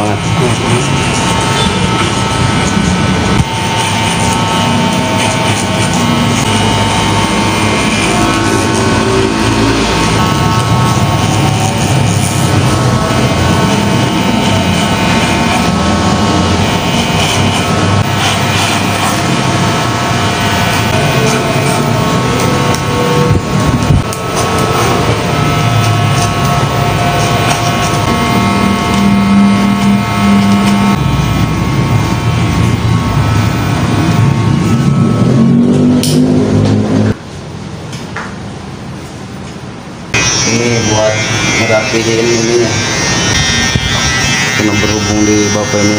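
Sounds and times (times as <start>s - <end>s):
electric hair clipper humming: 0.0s - 37.2s, 40.1s - 45.9s.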